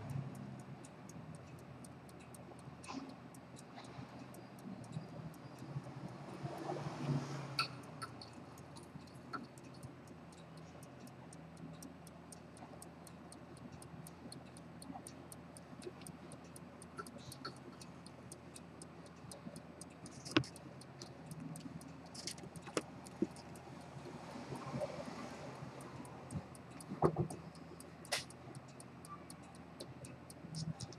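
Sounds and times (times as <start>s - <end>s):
pocket watch ticking: 0.0s - 30.9s.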